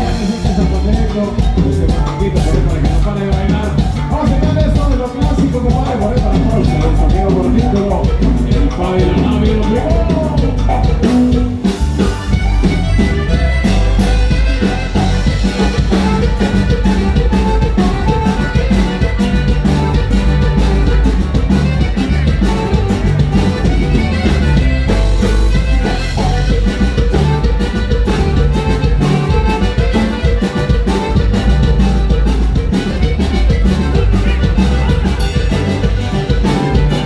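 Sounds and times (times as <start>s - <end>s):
bass: 0.0s - 37.0s
drum kit: 0.0s - 37.0s
saxophone melody: 5.8s - 37.0s.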